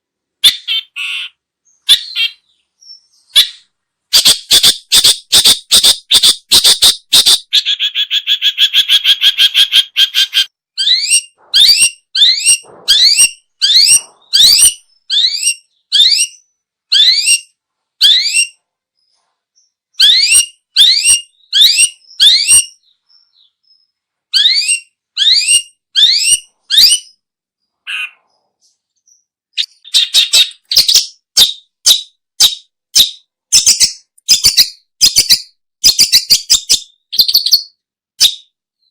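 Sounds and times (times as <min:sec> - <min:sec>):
bird calling loudly: 0:00.4 - 0:18.6, 0:19.9 - 0:27.2, 0:27.8 - 0:28.5, 0:29.1 - 0:38.4.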